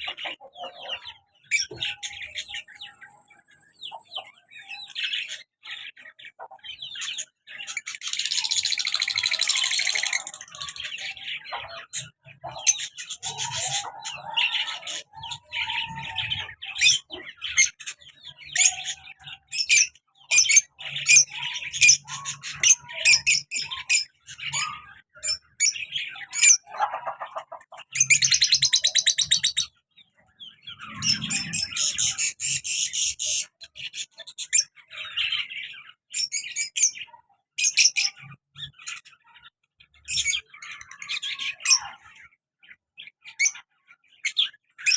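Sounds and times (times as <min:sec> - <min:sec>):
lovebirds chirping: 0:00.0 - 0:44.9.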